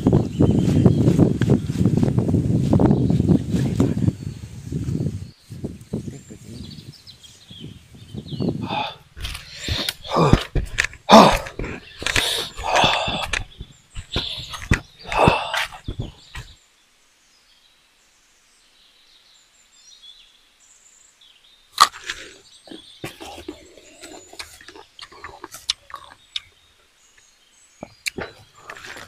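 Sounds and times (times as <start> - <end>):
faint bird chirps: 2.8 - 29.0.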